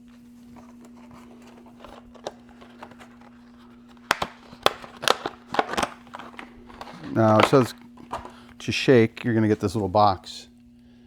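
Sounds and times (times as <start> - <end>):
clicks and crinkling of packaging: 0.0 - 9.6
steady low hum: 0.0 - 11.0.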